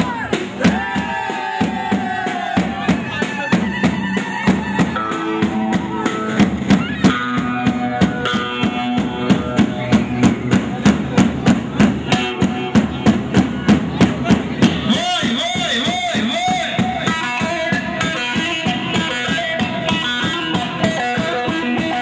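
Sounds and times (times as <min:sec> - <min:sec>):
fast drum kit beat: 0:00.0 - 0:22.0
stepping melody line: 0:00.1 - 0:22.0.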